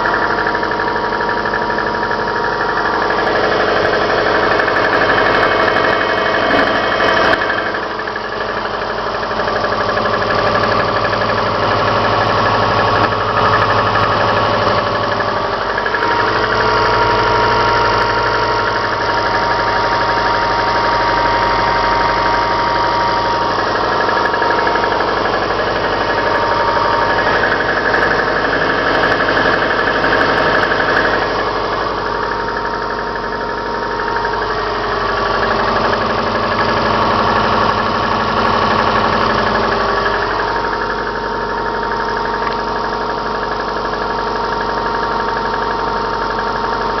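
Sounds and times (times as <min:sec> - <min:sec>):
car engine knocking: 0:00.0 - 0:47.0.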